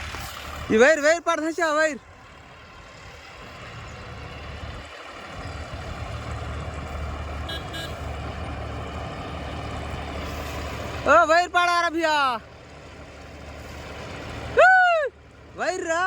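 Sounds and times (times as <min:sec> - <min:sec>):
combine harvester engine humming: 0:00.0 - 0:16.0.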